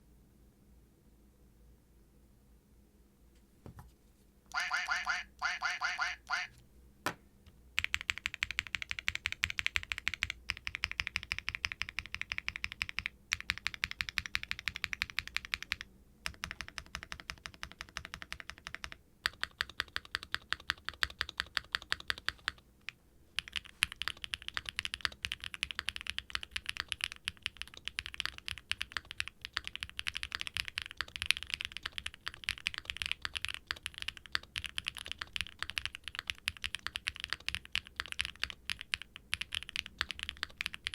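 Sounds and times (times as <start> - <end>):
mechanical keyboard typing: 7.8 - 40.9.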